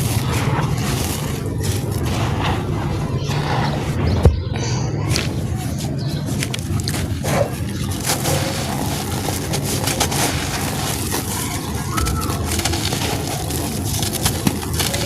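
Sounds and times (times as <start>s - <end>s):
sand-cement chunks crumbling: 0.0s - 4.0s, 5.1s - 15.0s.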